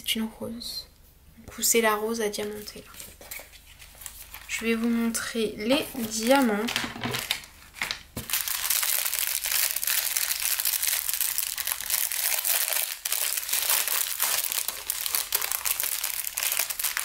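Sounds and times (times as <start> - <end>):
plastic packets crinkling: 2.4 - 4.9, 5.6 - 17.0.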